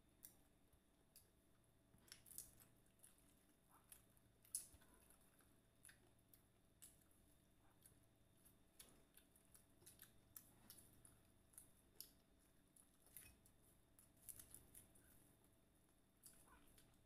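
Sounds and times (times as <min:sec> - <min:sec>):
crunching and chewing fried chicken: 0:00.1 - 0:17.0.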